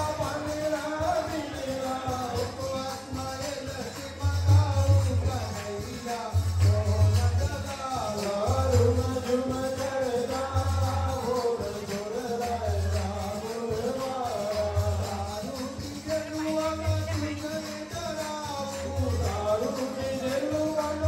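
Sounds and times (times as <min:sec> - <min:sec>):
percussion: 0:00.0 - 0:21.0
voices singing devotional song: 0:00.0 - 0:21.0.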